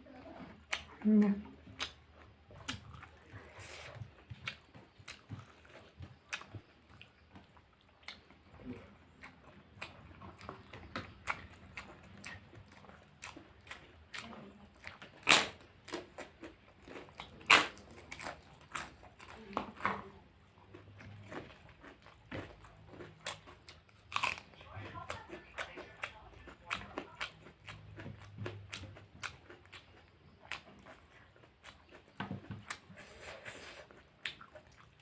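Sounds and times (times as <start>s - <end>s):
person chewing food: 0.5s - 35.0s.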